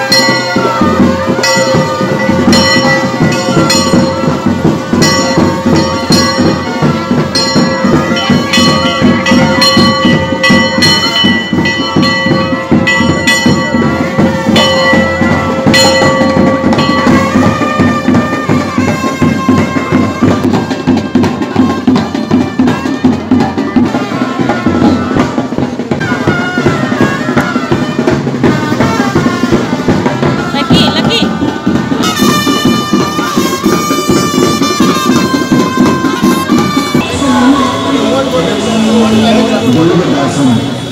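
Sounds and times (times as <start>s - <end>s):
drums and percussion: 0.0s - 40.9s
held wind instrument notes: 0.0s - 40.9s.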